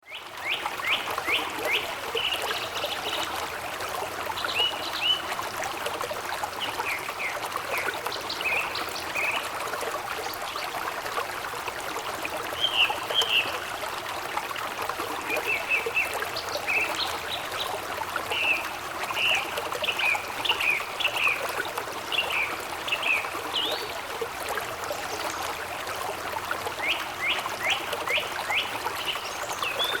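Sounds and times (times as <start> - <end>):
stream trickling: 0.0 - 30.0.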